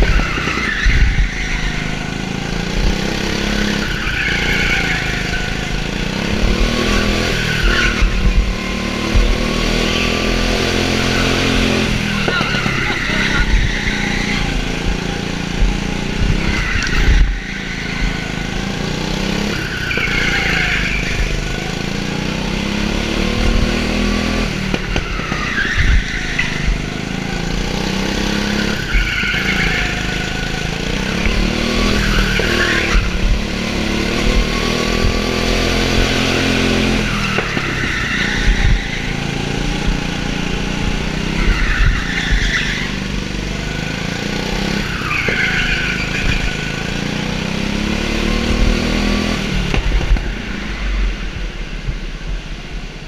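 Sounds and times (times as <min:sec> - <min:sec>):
tyres squealing: 0:00.0 - 0:22.5, 0:24.5 - 0:47.1
go-kart engine revving: 0:00.0 - 0:53.0.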